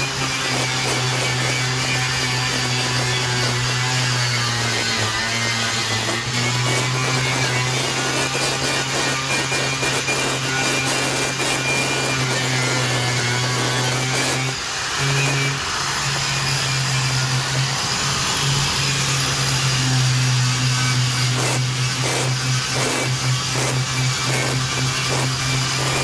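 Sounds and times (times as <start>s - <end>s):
power grinder running: 0.0s - 26.0s.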